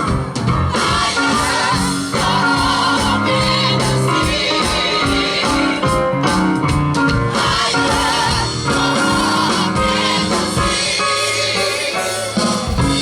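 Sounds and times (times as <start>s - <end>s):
band with bass and drums: 0.0s - 13.0s
voices singing gospel: 0.5s - 13.0s.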